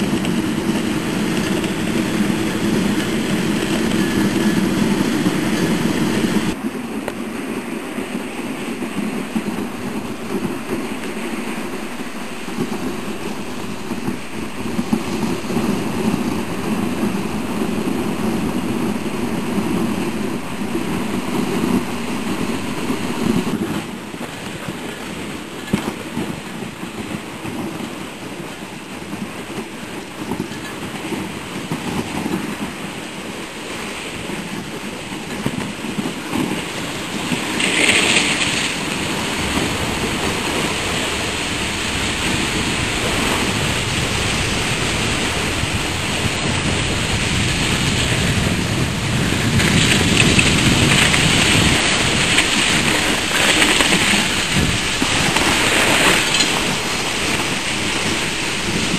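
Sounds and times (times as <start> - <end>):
sled runners scraping on snow: 0.0 - 58.9.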